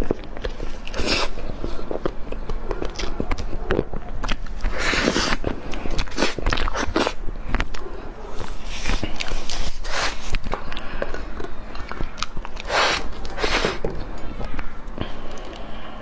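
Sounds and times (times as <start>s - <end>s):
chewing with wet mouth clicks: 0.0s - 9.6s, 10.2s - 13.5s.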